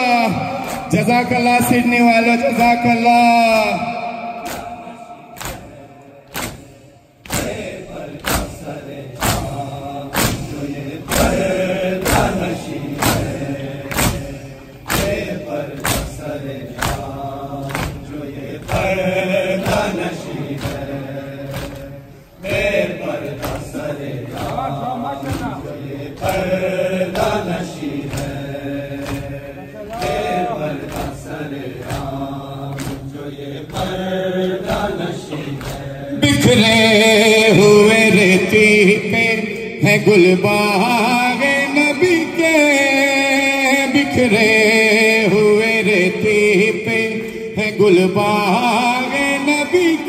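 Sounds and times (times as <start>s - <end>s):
voices chanting: 0.0s - 50.0s.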